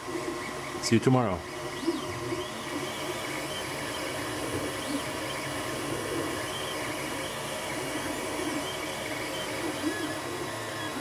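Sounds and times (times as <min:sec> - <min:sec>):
stepper motors whining: 0:01.4 - 0:11.0.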